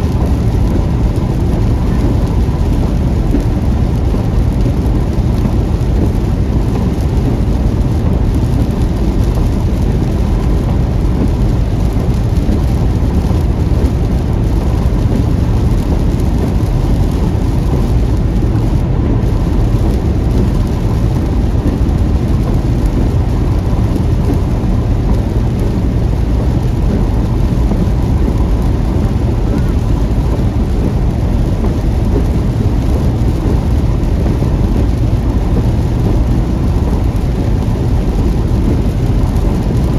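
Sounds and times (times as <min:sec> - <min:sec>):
rain hissing: 0:00.0 - 0:39.9
road and rain rumble: 0:00.0 - 0:39.9.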